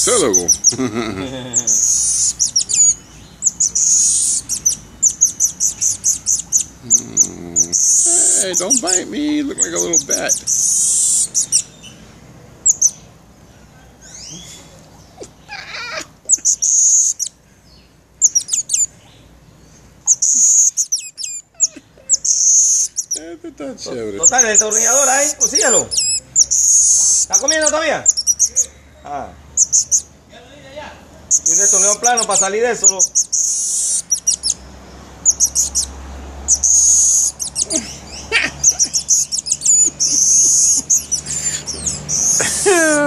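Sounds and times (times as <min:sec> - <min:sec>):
baby monkey squealing: 0:00.0 - 0:11.8, 0:12.6 - 0:13.0, 0:14.0 - 0:17.4, 0:18.2 - 0:19.0, 0:20.0 - 0:23.3, 0:24.2 - 0:28.8, 0:29.6 - 0:30.1, 0:31.3 - 0:34.6, 0:35.2 - 0:43.0
baby monkey chirping: 0:00.0 - 0:12.0, 0:12.6 - 0:30.2, 0:31.2 - 0:43.0.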